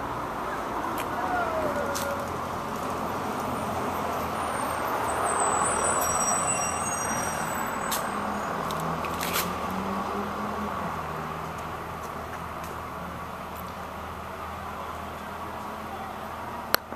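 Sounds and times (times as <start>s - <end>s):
passing vehicles hissing: 0.0s - 16.9s.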